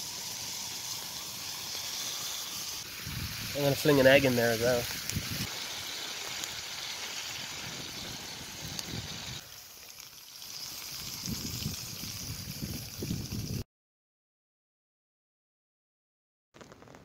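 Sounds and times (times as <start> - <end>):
bacon and eggs sizzling in a pan: 0.0 - 13.6.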